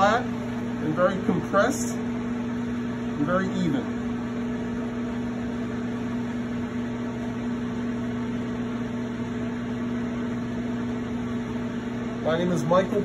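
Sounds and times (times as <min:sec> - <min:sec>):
potter's wheel motor hum: 0:00.0 - 0:13.0.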